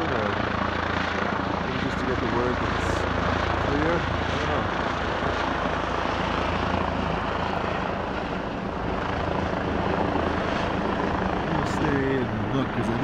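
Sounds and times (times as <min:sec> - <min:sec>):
helicopter rotor drone: 0:00.0 - 0:13.0.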